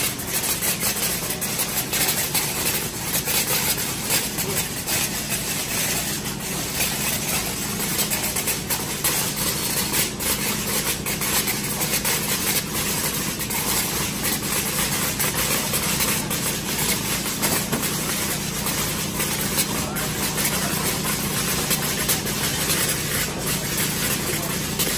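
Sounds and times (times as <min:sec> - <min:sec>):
machine hum and hiss: 0:00.0 - 0:24.9.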